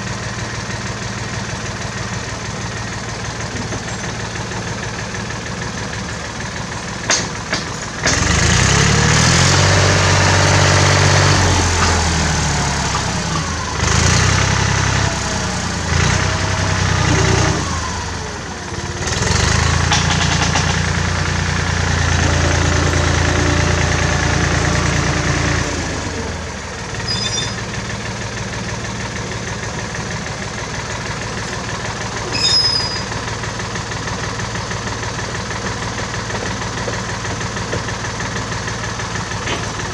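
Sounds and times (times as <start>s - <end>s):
tractor engine revving and idling: 0.0s - 39.9s.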